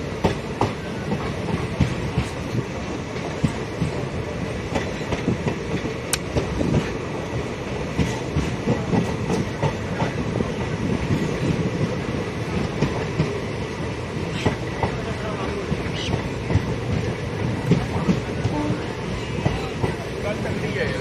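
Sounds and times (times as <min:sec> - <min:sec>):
train rumbling at speed: 0:00.0 - 0:21.0.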